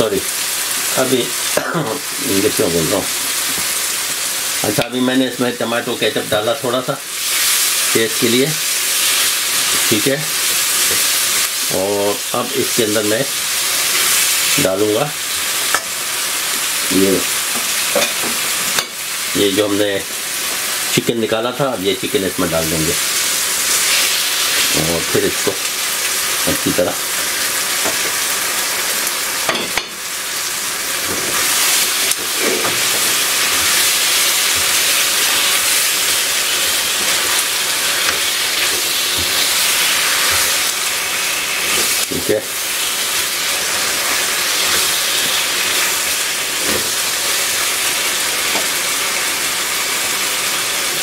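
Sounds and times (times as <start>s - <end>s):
food sizzling in frying pan: 0.0s - 51.0s.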